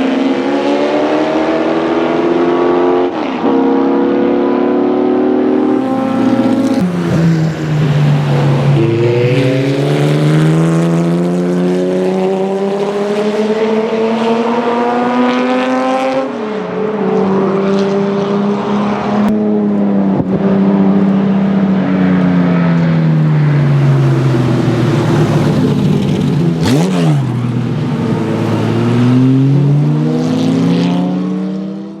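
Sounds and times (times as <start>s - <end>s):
race car engine at full throttle: 0.0s - 32.0s.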